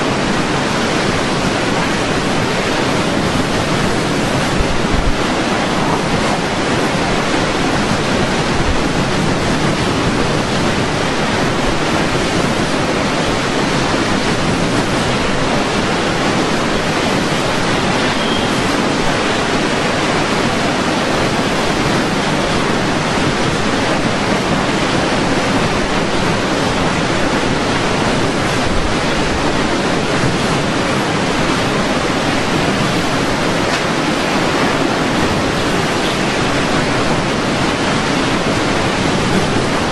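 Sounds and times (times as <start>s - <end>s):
storm wind and water rushing: 0.0s - 39.9s.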